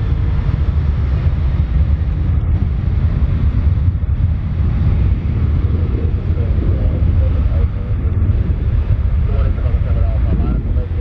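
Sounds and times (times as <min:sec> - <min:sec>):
jet engine roar: 0:00.0 - 0:11.0
wind buffeting microphone: 0:00.0 - 0:11.0.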